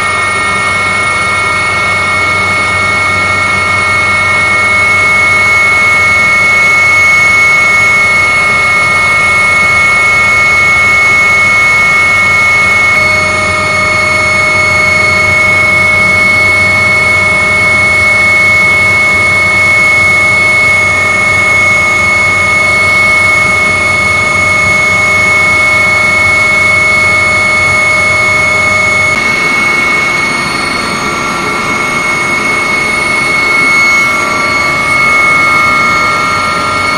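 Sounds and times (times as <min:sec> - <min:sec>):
helicopter cabin drone: 0:00.0 - 0:36.9
helicopter engines whining: 0:00.0 - 0:36.9.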